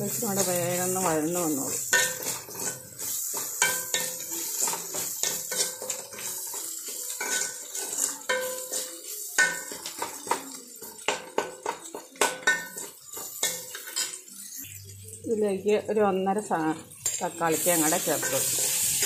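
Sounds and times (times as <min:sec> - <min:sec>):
spoon scraping metal pan: 0:00.0 - 0:11.0, 0:12.4 - 0:14.8, 0:17.0 - 0:19.0
oil sizzling: 0:00.0 - 0:19.0.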